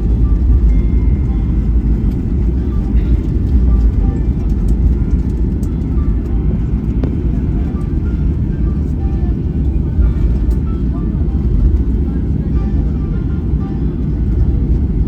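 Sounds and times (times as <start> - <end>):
airplane cabin rumble while taxiing: 0.0 - 15.0.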